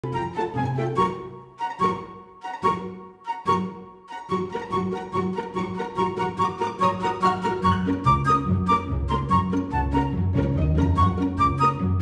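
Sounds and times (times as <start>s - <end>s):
light instrumental tune: 0.0s - 12.0s.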